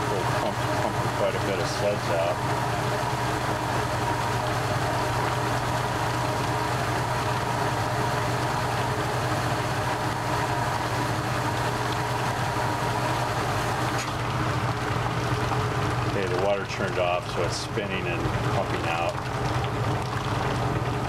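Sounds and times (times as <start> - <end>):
washing machine motor hum: 0.0 - 21.0
water gushing into sink: 0.0 - 21.0.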